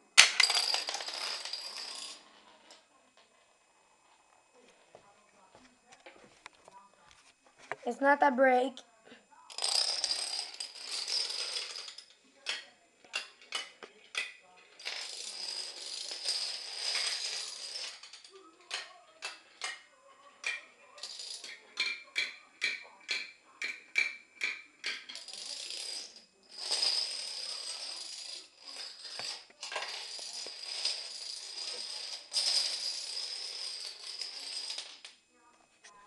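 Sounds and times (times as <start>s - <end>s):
toy dominoes clattering on wood: 0.2s - 3.3s, 9.5s - 35.2s.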